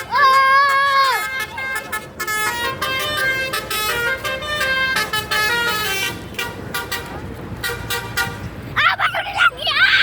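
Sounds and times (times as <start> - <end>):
multi-tone bus horn tune: 0.0 - 8.8.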